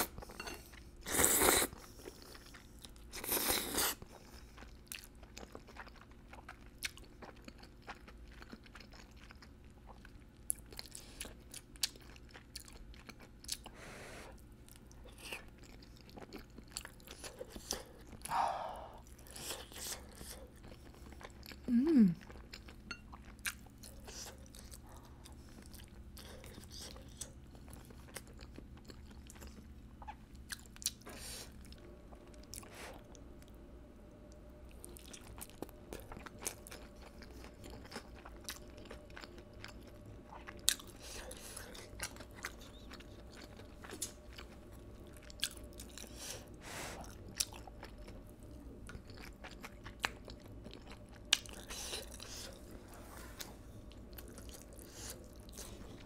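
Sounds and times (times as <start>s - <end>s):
person chewing and biting food: 0.0s - 13.8s, 22.3s - 33.2s, 34.8s - 56.0s
faint low hum: 0.0s - 56.0s.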